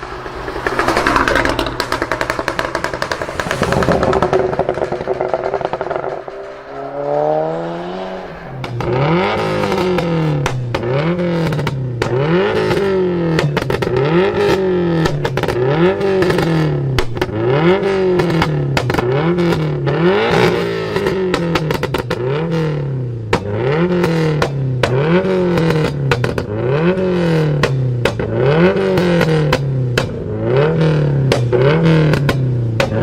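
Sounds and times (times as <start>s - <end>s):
car engine revving: 0.0s - 33.0s
exhaust pops and crackles: 0.0s - 33.0s.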